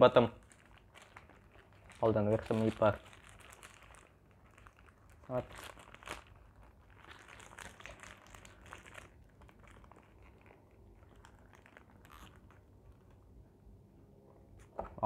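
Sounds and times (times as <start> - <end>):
paper wrapper crinkling: 0.0 - 13.4.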